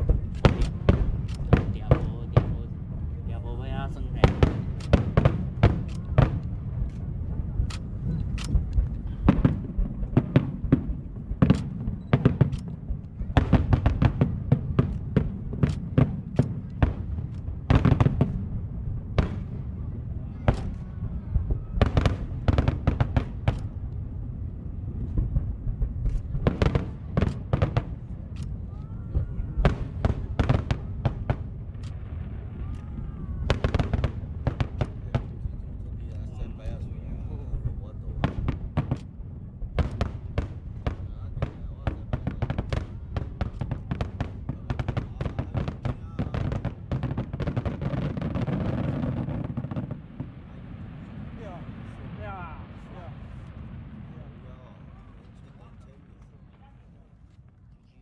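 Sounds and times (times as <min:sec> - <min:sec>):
low rumble: 0:00.0 - 0:56.6
fireworks bangs: 0:00.0 - 0:56.7.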